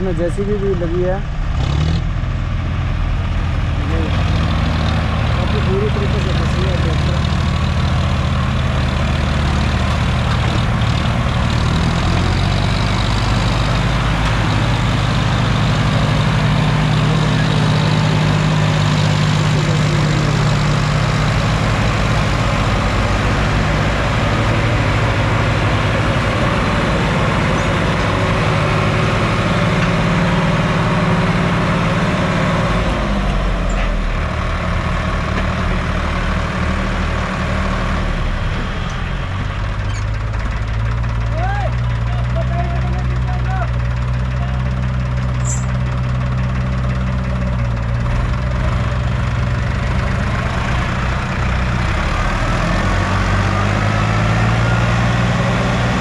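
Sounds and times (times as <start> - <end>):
tractor engines straining: 0.0 - 56.0.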